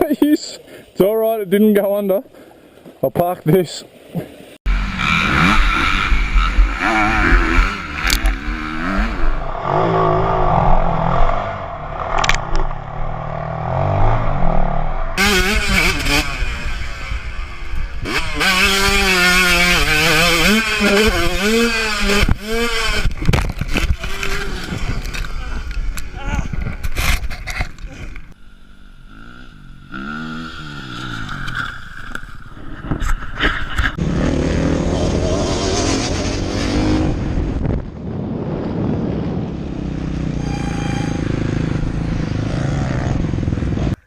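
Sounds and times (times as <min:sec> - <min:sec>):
motorcycle engines revving: 0:04.7 - 0:44.0.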